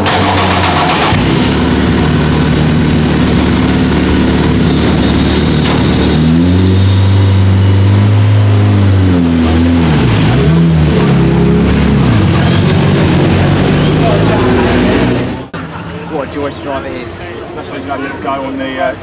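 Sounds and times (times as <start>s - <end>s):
racing car engine revving: 0.0s - 15.6s.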